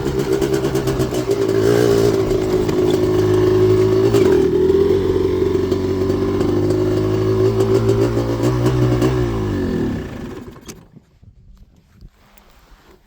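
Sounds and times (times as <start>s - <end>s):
two-stroke engine running: 0.0s - 10.9s.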